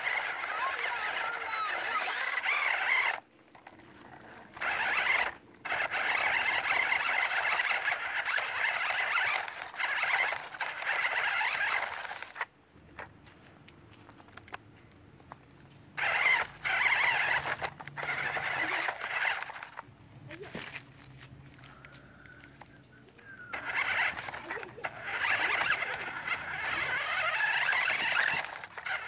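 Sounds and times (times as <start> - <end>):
toy car electric motor whining: 0.0 - 12.5, 16.0 - 29.0.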